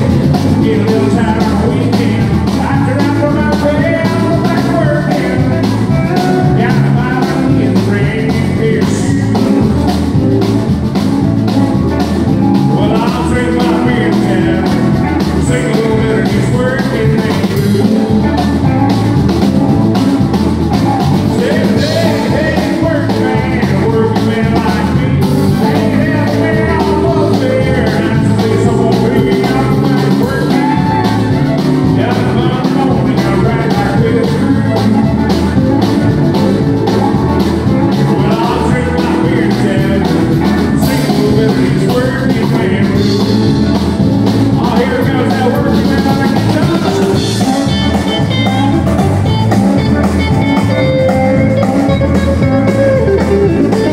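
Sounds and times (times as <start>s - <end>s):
electric guitar: 0.0s - 53.9s
keyboard: 0.0s - 53.9s
live rock band playing: 0.0s - 53.9s
man singing: 0.0s - 53.9s.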